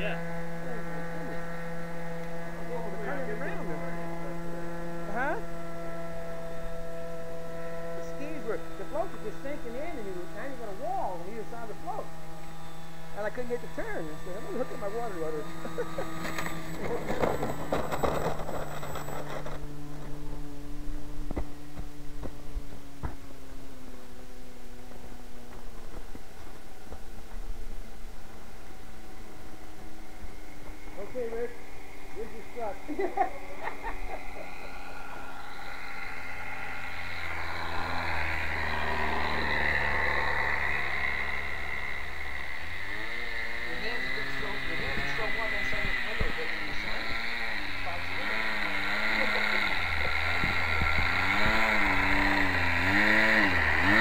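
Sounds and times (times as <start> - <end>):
low multi-pitch hum: 0.0 - 54.0
model airplane engine: 0.0 - 54.0.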